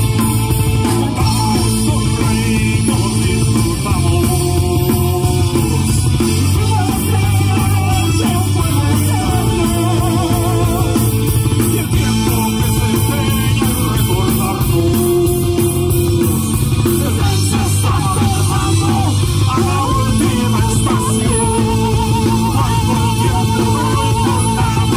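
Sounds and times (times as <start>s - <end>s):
bass guitar: 0.0s - 24.9s
drum kit with cymbals: 0.0s - 24.9s
electric guitar: 0.0s - 24.9s
person singing: 0.2s - 24.9s.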